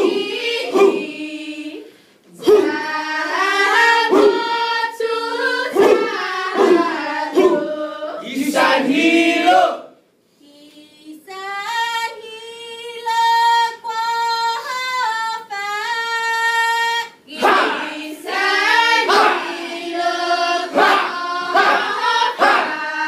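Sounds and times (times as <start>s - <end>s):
women chanting a cappella: 0.0s - 23.0s.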